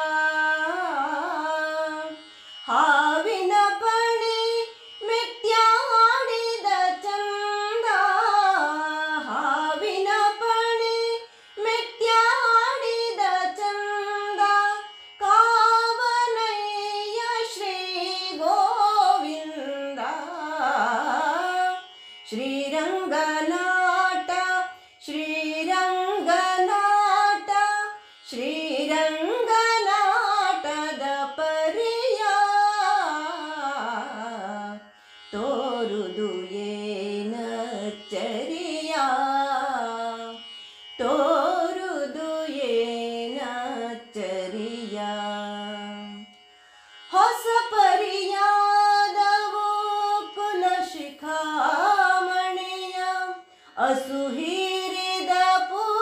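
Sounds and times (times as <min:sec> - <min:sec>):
woman singing devotional song: 0:00.0 - 0:46.4, 0:47.0 - 0:56.0.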